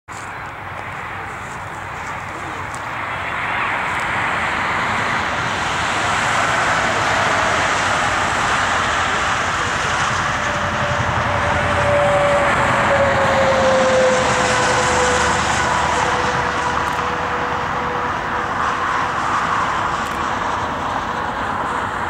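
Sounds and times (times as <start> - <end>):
freight train rolling by: 0.1 - 22.0
highway traffic rushing: 0.1 - 22.0.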